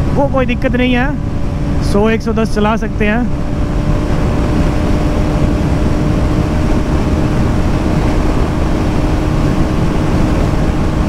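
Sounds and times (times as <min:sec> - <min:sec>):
motorcycle engine cruising: 0:00.0 - 0:11.0
wind rush on microphone: 0:00.0 - 0:11.0.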